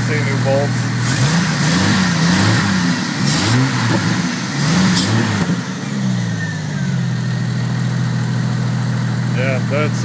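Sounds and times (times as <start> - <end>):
car engine revving and idling: 0.0 - 10.0.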